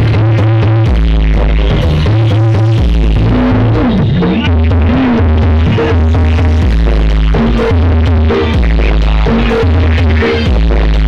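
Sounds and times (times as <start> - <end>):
loud electronic dance music: 0.0 - 11.0.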